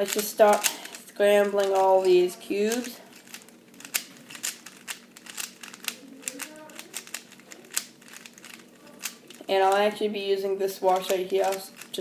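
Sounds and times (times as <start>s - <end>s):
puzzle cube layers clicking: 0.0s - 9.9s, 10.8s - 12.0s.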